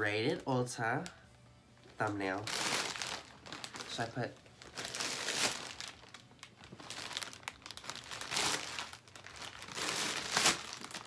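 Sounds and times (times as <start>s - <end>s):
plastic bag crinkling: 1.9s - 11.0s.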